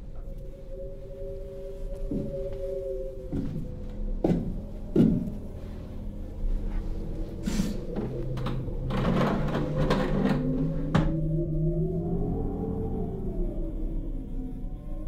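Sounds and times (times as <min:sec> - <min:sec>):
low musical drone: 0:00.0 - 0:15.0.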